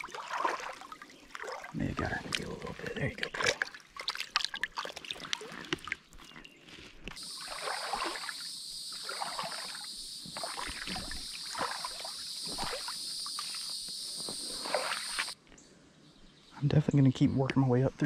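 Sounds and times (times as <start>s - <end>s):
water splashing and sloshing: 0.0s - 15.4s.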